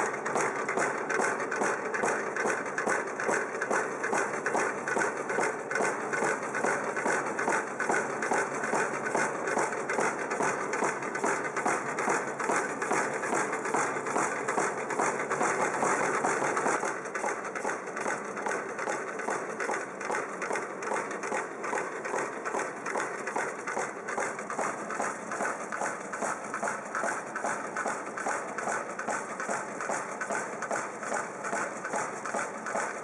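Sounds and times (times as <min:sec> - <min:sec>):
food cutting machine running: 0:00.0 - 0:33.0.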